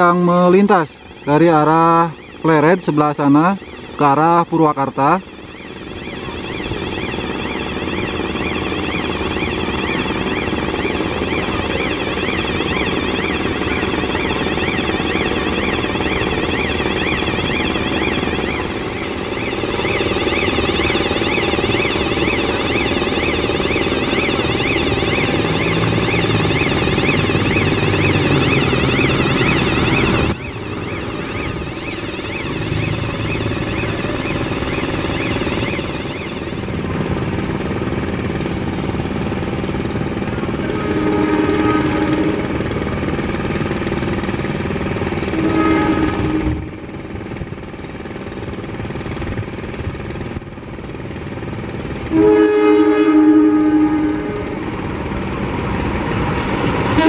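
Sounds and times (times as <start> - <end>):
machinery running: 0.0 - 57.0
warbling electronic alarm: 0.0 - 57.0.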